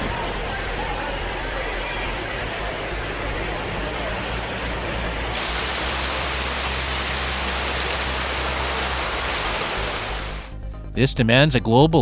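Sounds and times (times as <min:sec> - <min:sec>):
water rushing: 0:00.0 - 0:10.5.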